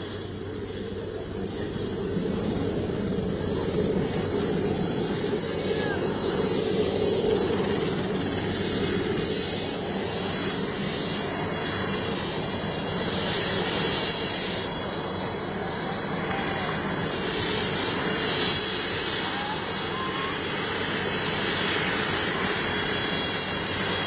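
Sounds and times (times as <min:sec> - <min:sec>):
helicopter turbine whine: 0:00.0 - 0:24.0.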